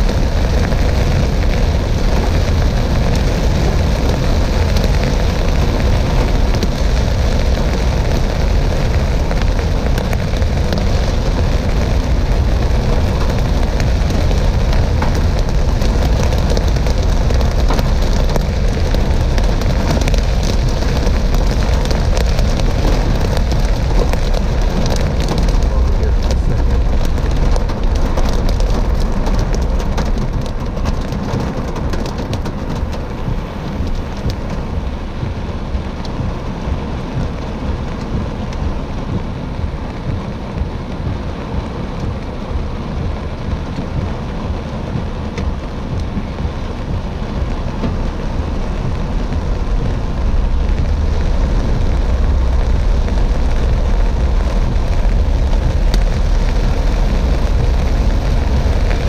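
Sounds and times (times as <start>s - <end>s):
heavy rain on car roof: 0.0s - 59.0s
road and wind rumble: 0.0s - 59.0s.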